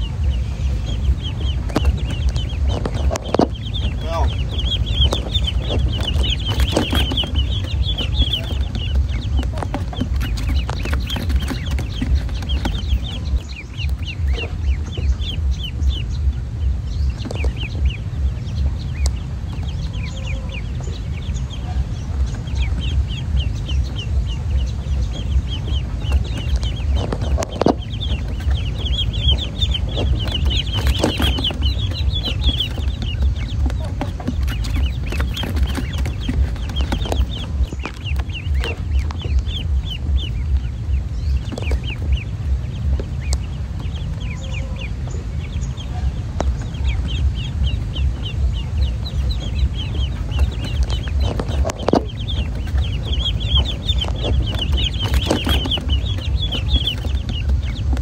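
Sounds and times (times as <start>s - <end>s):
ducklings peeping: 0.0s - 58.0s
steady low rumble: 0.0s - 58.0s.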